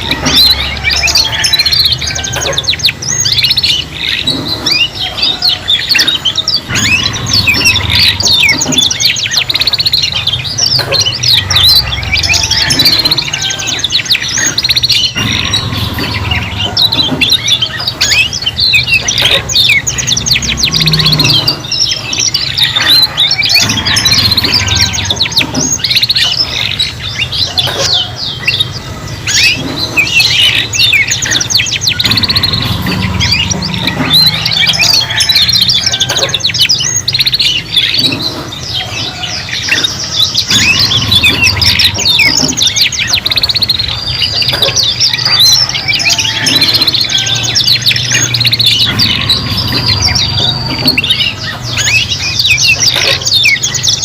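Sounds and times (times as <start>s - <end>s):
canaries singing: 0.0s - 54.0s.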